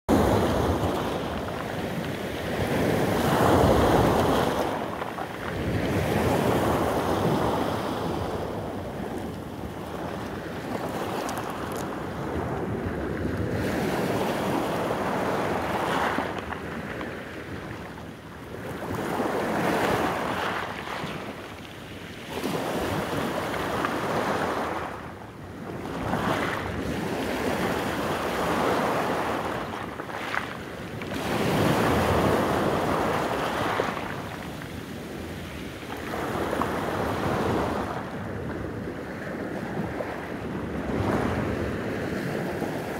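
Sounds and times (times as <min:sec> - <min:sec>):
waves breaking on pebbles: 0:00.1 - 0:25.0, 0:25.8 - 0:42.9.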